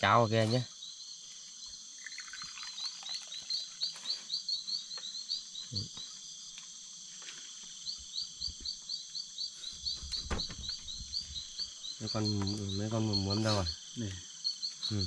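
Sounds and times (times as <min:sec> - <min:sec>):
insect drone: 0:00.0 - 0:15.0
short chirping calls: 0:00.4 - 0:06.2, 0:07.8 - 0:15.0.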